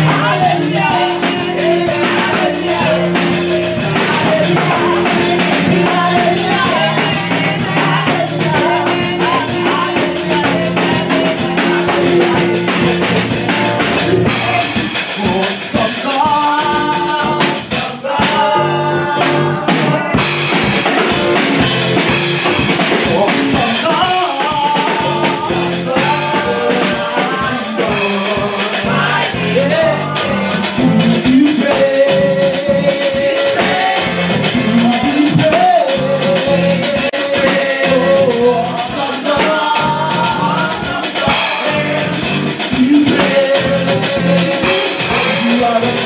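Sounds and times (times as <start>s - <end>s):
drum beat: 0.0s - 46.0s
electronic keyboard chords: 0.0s - 46.0s
people singing: 0.0s - 46.0s.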